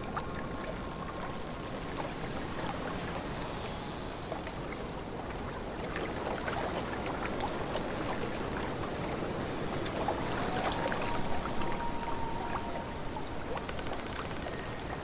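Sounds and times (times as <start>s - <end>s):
waves lapping and splashing: 0.0s - 15.0s
wind: 0.0s - 15.0s.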